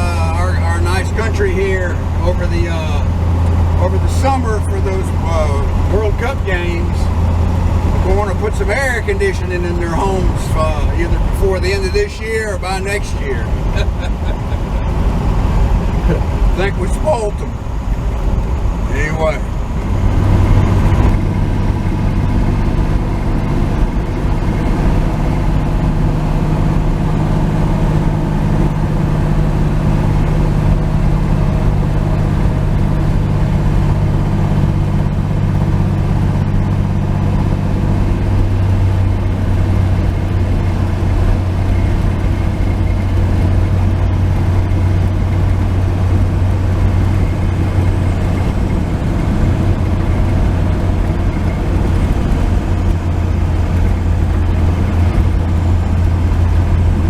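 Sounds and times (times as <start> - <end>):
higher droning tone: 0.0 - 57.0
road noise: 0.0 - 57.0
truck engine running: 0.0 - 57.0.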